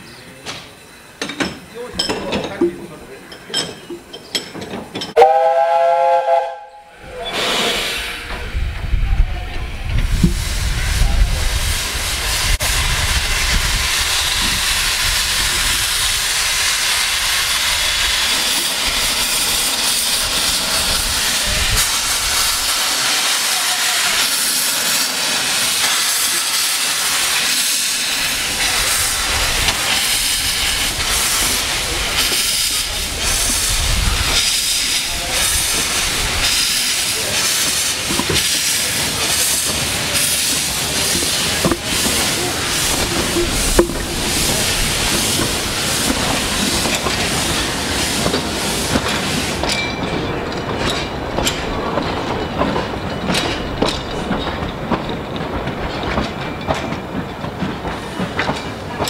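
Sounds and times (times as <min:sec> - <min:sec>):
steam locomotive hissing: 0:02.8 - 0:59.0.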